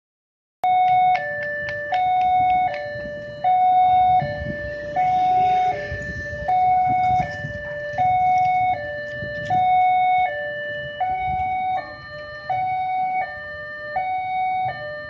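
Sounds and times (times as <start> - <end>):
level crossing two-tone alarm: 0.6 - 15.0.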